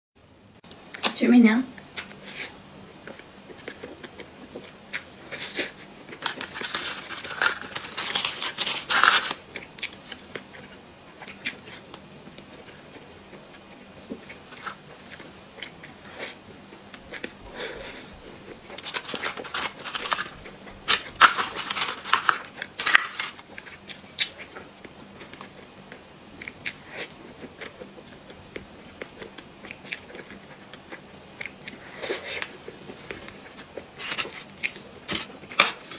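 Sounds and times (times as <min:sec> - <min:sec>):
chewing and wet mouth sounds: 0:01.8 - 0:07.8, 0:09.3 - 0:22.8, 0:23.4 - 0:35.5.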